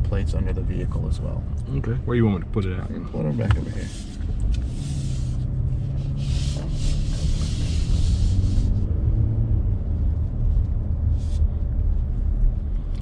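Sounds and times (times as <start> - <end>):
engine low hum: 0.0 - 13.0.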